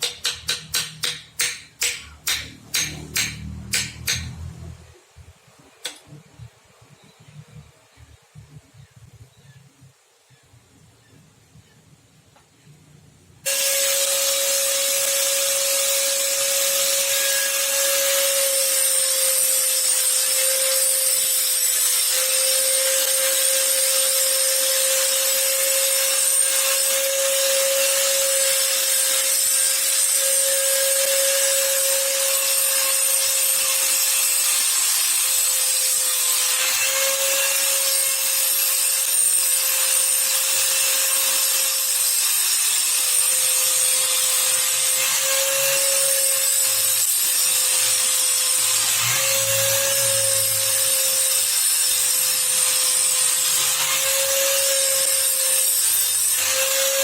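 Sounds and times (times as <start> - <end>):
power tool grinding metal: 0.0 - 4.5, 13.5 - 57.0.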